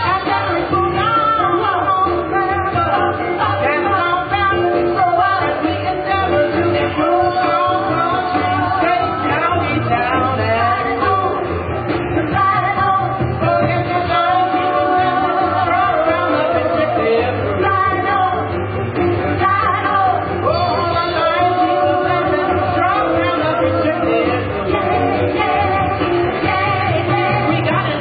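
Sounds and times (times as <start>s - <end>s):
live band accompaniment: 0.0s - 28.0s
people singing: 0.0s - 28.0s.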